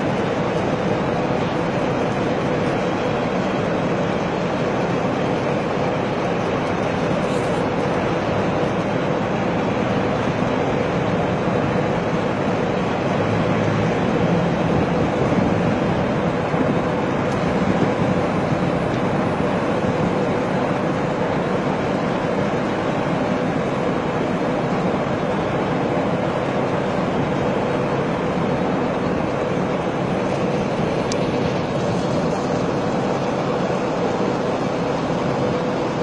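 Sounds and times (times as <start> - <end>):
steady mechanical drone: 0.0 - 36.0.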